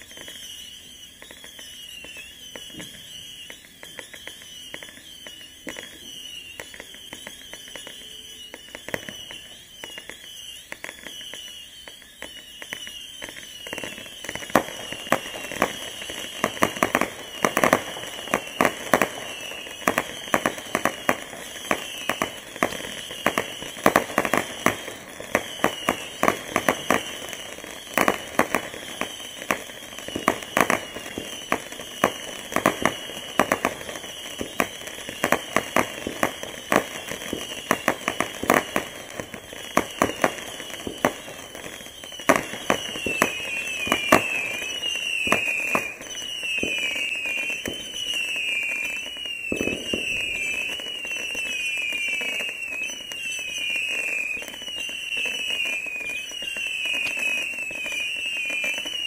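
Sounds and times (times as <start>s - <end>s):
firework pops and cracks: 0.0s - 59.0s
whistling missiles firework: 0.0s - 59.0s.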